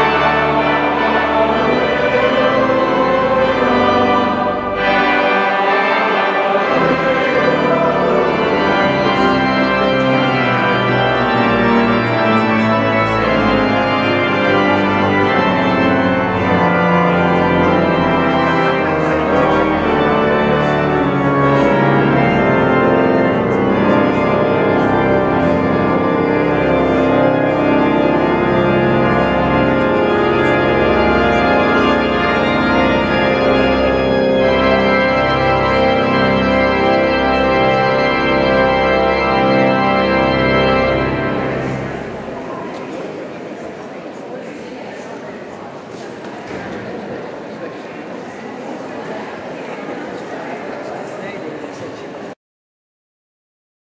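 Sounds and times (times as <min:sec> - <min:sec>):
pipe organ playing chords: 0:00.0 - 0:44.2.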